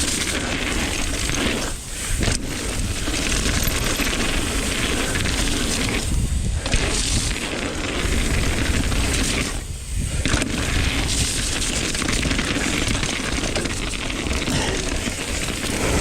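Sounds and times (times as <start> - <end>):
wind rushing over microphone: 0.0 - 13.0, 14.4 - 16.0
bike rattling over rough ground: 0.0 - 16.0
bike tyre noise: 0.0 - 16.0.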